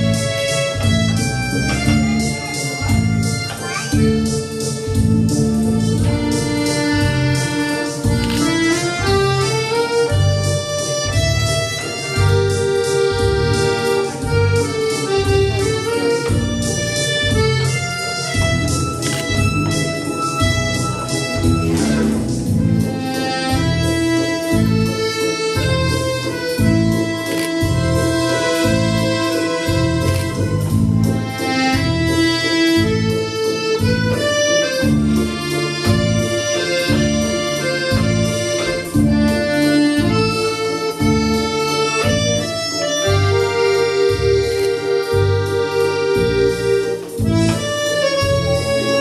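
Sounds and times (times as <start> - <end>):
piano accordion melody: 0.0 - 49.0.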